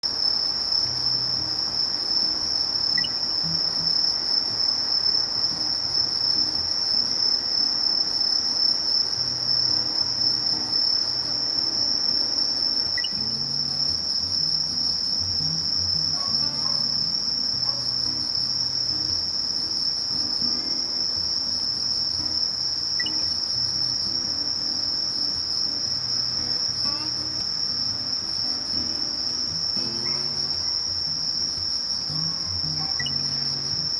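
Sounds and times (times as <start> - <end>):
bush cricket high-pitched trill: 0.1 - 33.9.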